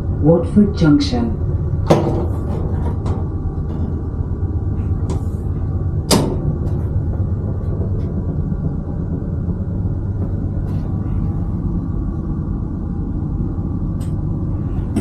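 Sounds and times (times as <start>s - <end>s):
diesel train engine hum: 0.0s - 15.0s.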